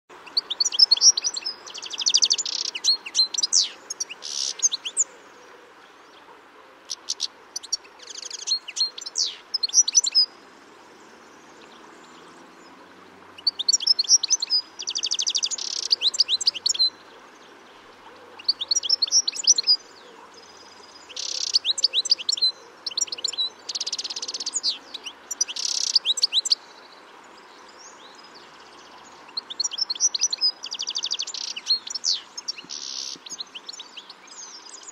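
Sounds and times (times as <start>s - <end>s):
goldfinches calling and twittering: 0.2s - 5.2s, 6.9s - 12.8s, 13.4s - 34.9s.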